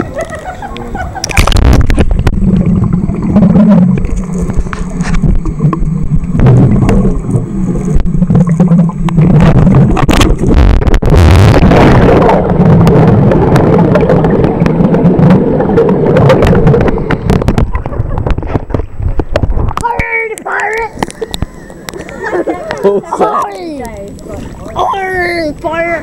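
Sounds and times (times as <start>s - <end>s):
muffled underwater churning: 0.0s - 26.0s
rush of water: 0.0s - 26.0s
underwater clicks: 0.1s - 24.8s.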